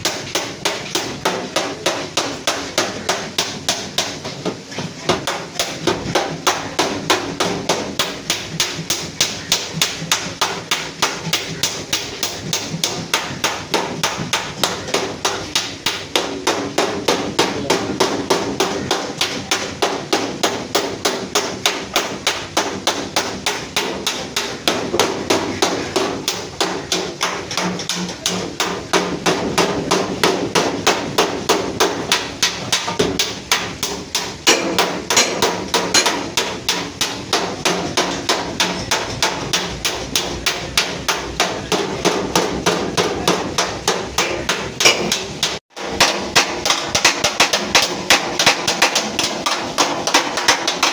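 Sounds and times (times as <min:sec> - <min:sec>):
hammer beating sheet steel: 0:00.0 - 0:50.9.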